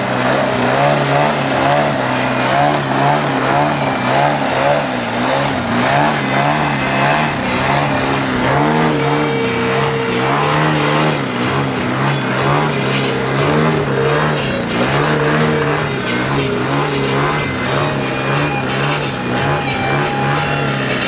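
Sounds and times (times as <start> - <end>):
model plane engine and propeller: 0.0 - 21.0.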